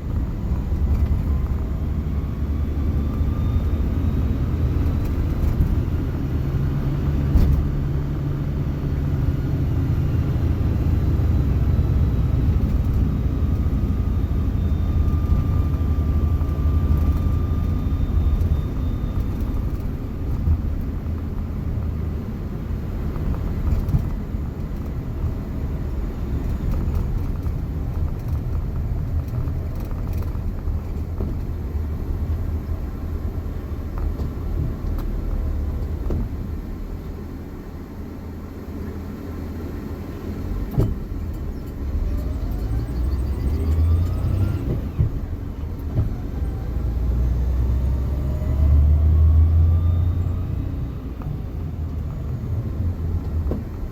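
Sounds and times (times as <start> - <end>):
car engine rumble: 0.0 - 53.9.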